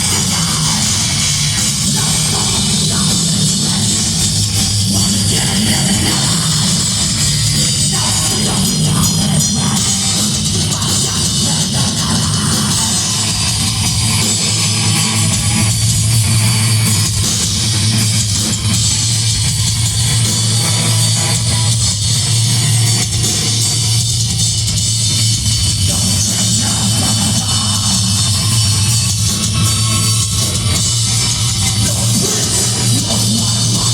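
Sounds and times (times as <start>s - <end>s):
distorted electric guitars: 0.0s - 33.9s
pounding drum kit: 0.0s - 33.9s.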